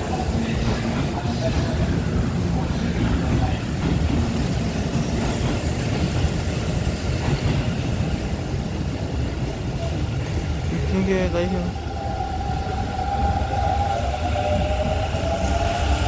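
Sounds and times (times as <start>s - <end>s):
electric trains rumbling: 0.0s - 16.0s.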